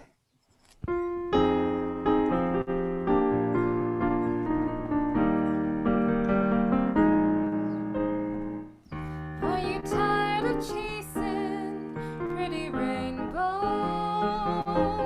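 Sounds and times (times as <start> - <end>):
piano playing sustained chords: 0.9 - 15.0.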